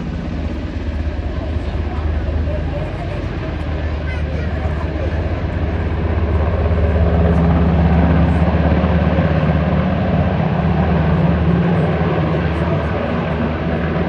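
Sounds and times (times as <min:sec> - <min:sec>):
helicopter rotor chop: 0:00.0 - 0:14.0.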